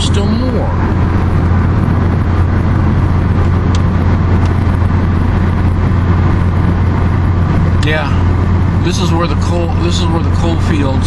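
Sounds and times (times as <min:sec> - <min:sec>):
car road noise: 0:00.0 - 0:11.0.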